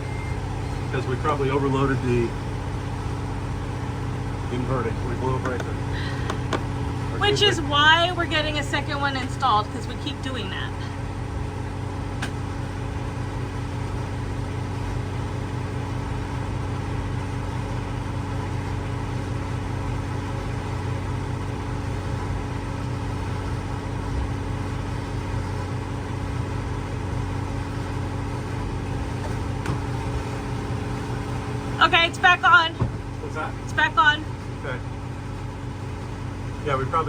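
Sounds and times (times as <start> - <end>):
generator engine droning: 0.0 - 37.0.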